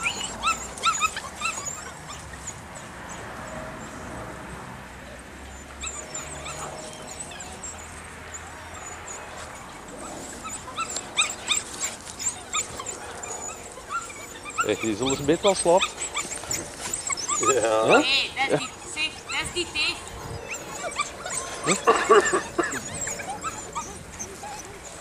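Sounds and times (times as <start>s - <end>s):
puppies yipping and squealing: 0.0s - 4.2s, 5.1s - 25.0s.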